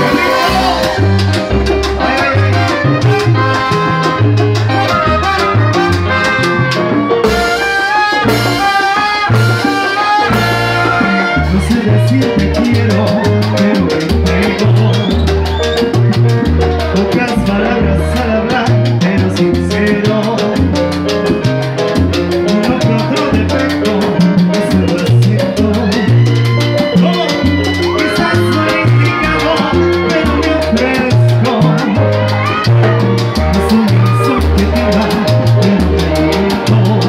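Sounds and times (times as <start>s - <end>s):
lead singer: 0.0s - 4.3s, 7.0s - 21.5s, 22.3s - 37.0s
bass line: 0.0s - 37.0s
brass: 0.0s - 37.0s
salsa band playing: 0.0s - 37.0s.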